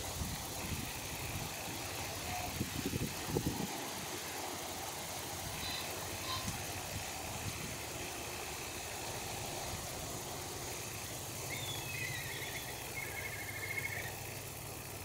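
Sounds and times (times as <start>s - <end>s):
distant road traffic rumble: 0.0s - 15.0s
high rapid trill: 0.0s - 15.0s.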